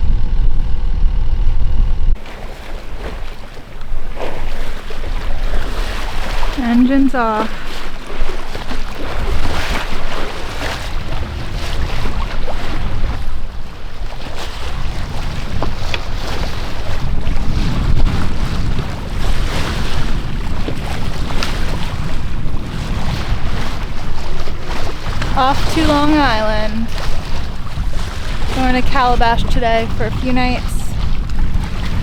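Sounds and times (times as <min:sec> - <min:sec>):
water rushing along hull: 0:00.0 - 0:32.0
wind gusting across microphone: 0:00.0 - 0:32.0.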